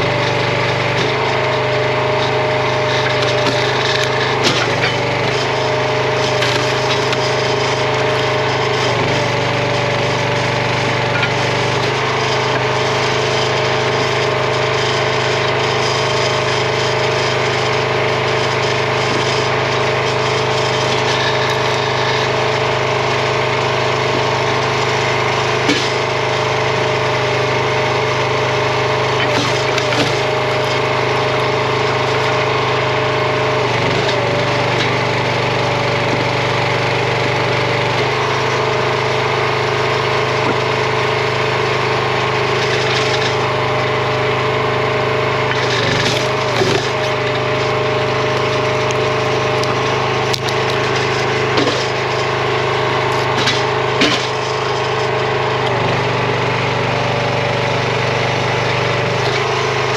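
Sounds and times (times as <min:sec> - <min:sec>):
small gas engine running: 0:00.0 - 0:59.9
wood cracking under log splitter: 0:00.0 - 0:59.9.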